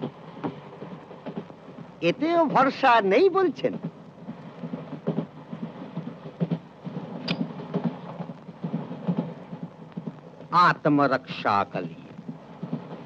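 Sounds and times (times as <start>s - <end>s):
train rumbling with wheel clatter: 0.0s - 13.0s.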